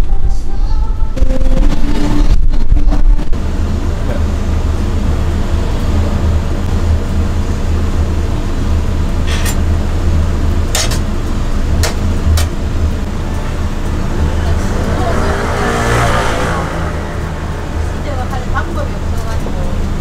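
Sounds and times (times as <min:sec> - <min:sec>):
rotisserie grill humming: 0:00.0 - 0:20.0.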